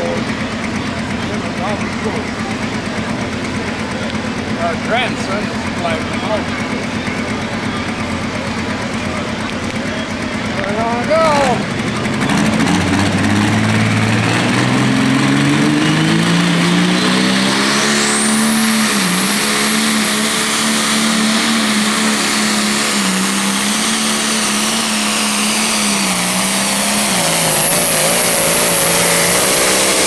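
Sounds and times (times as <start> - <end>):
diesel engine under full load: 0.0 - 30.0
high turbo whine: 0.0 - 30.0.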